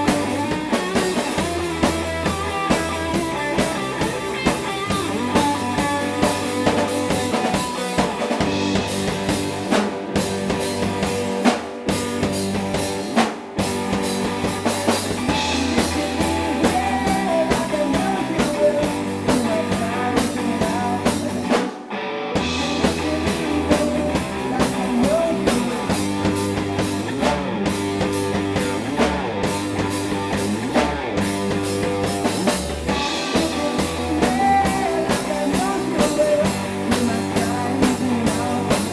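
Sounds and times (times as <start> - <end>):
drum kit: 0.0 - 38.9
electric guitar: 0.0 - 38.9
rock band playing: 0.0 - 38.9.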